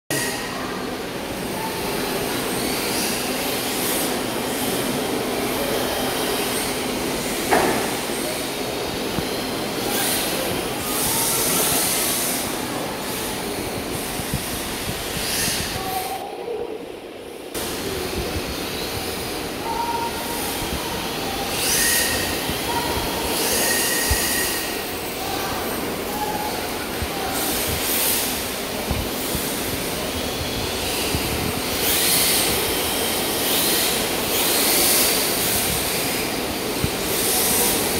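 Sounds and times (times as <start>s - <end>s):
rc car motors whirring: 0.1s - 16.2s, 17.6s - 37.9s.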